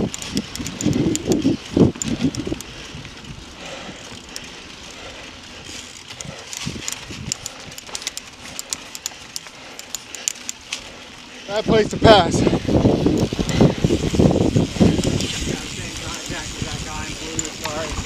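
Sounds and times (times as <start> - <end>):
bike rattling over bumps: 0.0 - 18.0
bike tyre noise on dirt: 0.0 - 18.0
rider vocal sounds: 0.0 - 18.0.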